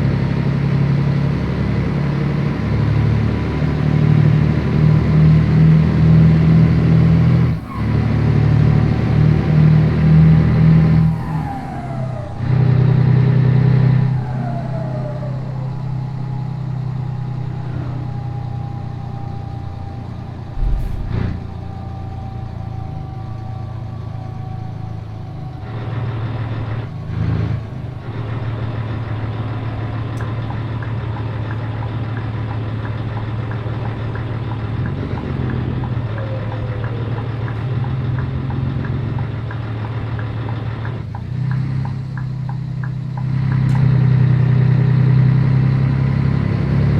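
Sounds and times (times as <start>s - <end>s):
truck diesel engine running: 1.1s - 46.4s.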